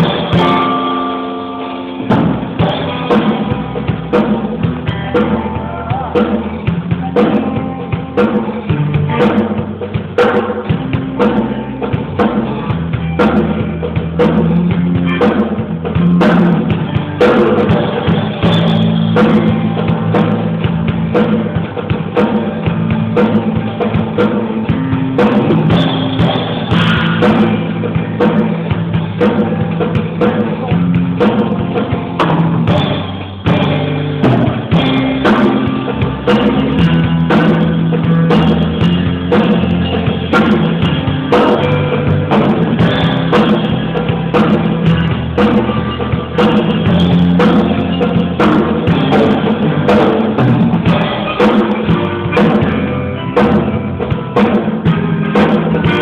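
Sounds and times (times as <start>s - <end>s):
band with drums and bass: 0.0s - 56.0s.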